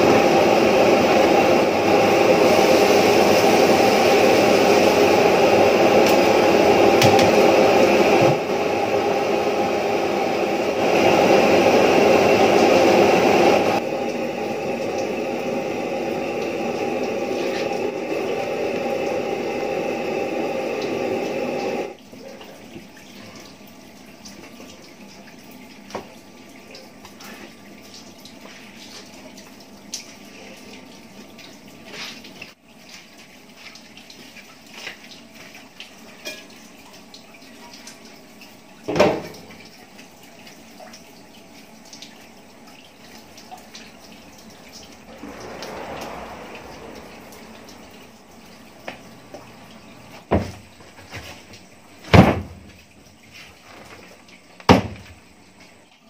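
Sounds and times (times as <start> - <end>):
rice boiling in pot: 0.0 - 55.9.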